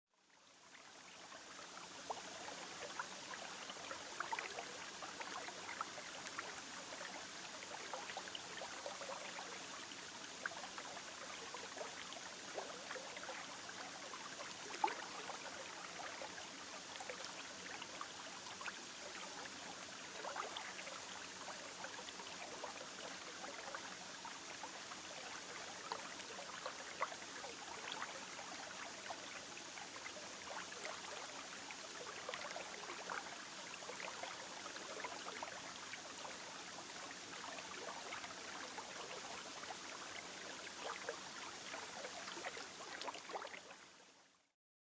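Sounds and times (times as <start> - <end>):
water splashes and trickles: 0.2 - 44.5
river water running: 0.4 - 44.2.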